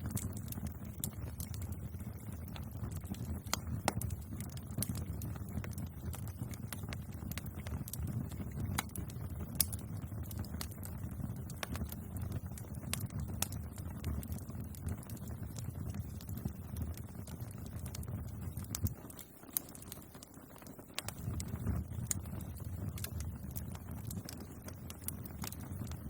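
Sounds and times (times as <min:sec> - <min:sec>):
bonfire flame rumbling: 0:00.0 - 0:26.0
burning wood crackling and popping: 0:00.0 - 0:26.0.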